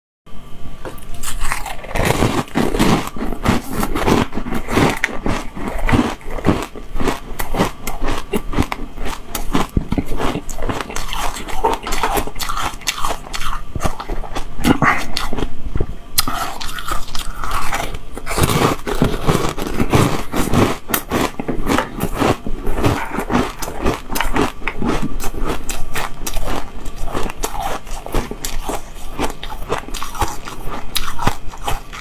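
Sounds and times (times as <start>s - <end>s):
crunching and chewing ice: 0.9s - 15.6s, 16.2s - 32.0s.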